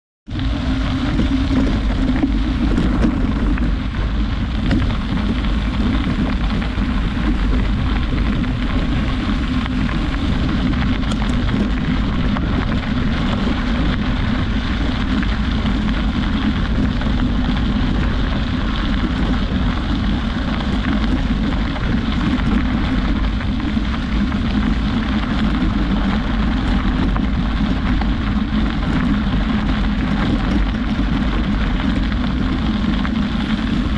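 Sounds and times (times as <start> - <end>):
wind buffeting microphone: 0.3 - 33.9.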